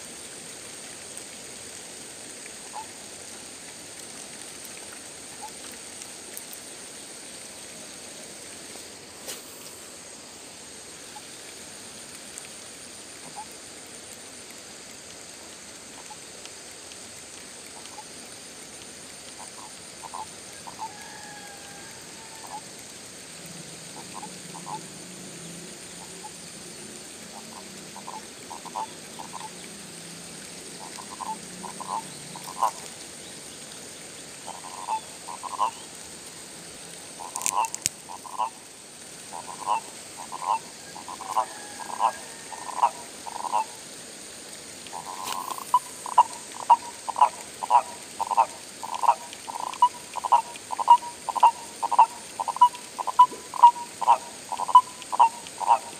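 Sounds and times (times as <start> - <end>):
frogs croaking: 2.0 - 4.4, 10.0 - 55.9.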